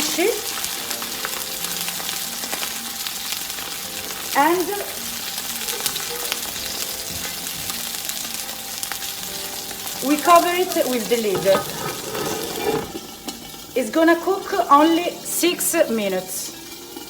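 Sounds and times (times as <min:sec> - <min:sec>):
fish sizzling in a frying pan: 0:00.0 - 0:17.0.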